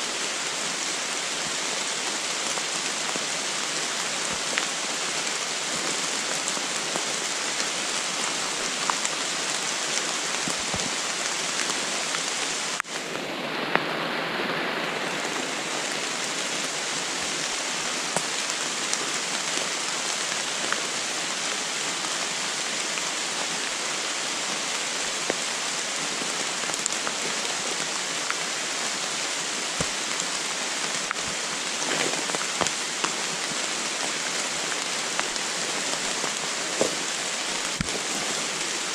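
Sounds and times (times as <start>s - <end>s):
rain hissing on leaves: 0.0s - 38.9s.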